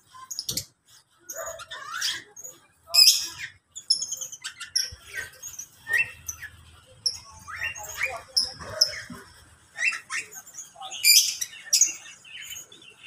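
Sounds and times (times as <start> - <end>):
cage birds chirping and calling: 0.0 - 13.0.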